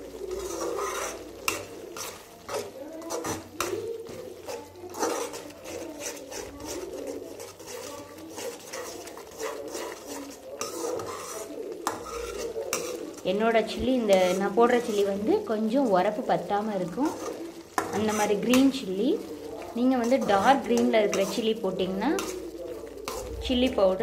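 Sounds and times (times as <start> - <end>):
spoon clinking and scraping pan: 0.0 - 24.0
spoon stirring thick gravy: 0.0 - 24.0.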